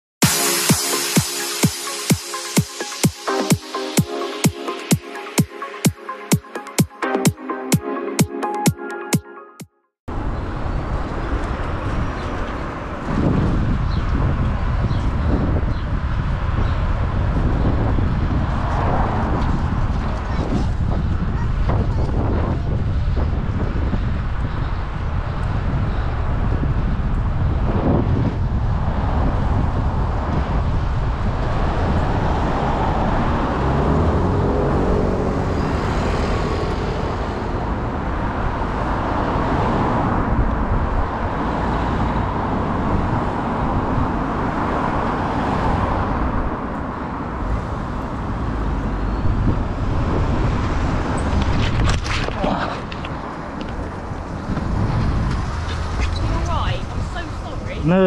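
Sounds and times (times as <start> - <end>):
road traffic: 0.2 - 58.0
wind rumbling on microphone: 10.1 - 58.0.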